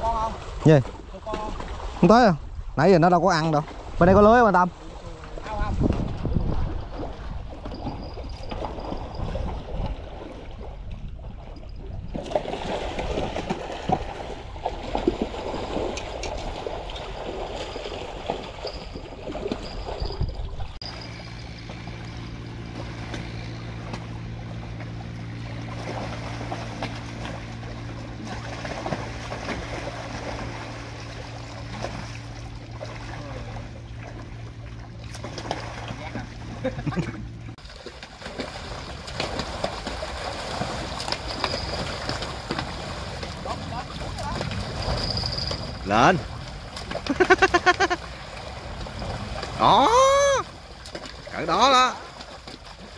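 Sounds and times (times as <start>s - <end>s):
water trickling and lapping: 0.0s - 52.9s
low engine hum: 4.9s - 52.9s.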